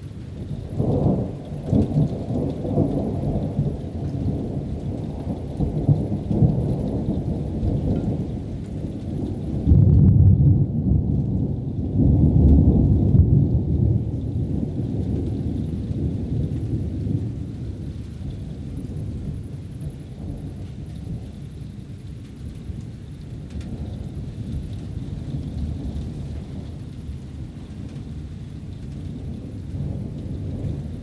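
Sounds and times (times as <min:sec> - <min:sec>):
rolling thunder: 0:00.2 - 0:31.0.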